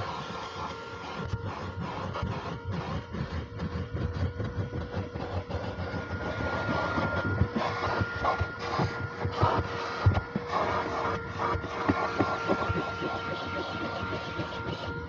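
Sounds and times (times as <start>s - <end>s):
nozzle scraping carpet: 0.0s - 15.0s
vacuum cleaner whine: 0.0s - 15.0s.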